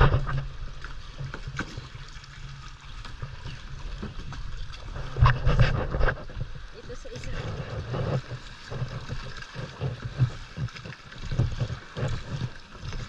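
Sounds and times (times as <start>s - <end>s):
rumbling thumps on microphone: 0.0s - 1.5s, 3.2s - 13.0s
water splashing around a kayak: 0.0s - 13.0s.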